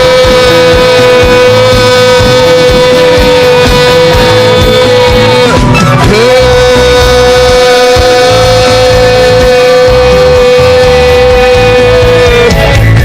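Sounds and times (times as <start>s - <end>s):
low musical backing: 0.0s - 13.0s.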